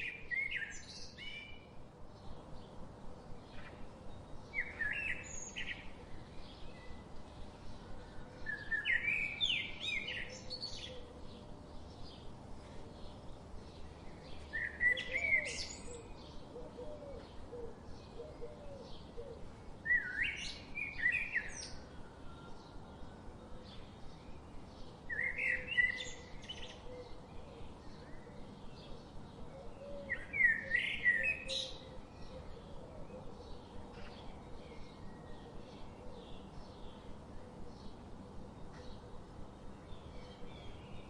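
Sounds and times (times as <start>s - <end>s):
bird singing loud song phrase: 0.0s - 41.0s
faint bird chirping: 0.0s - 41.0s.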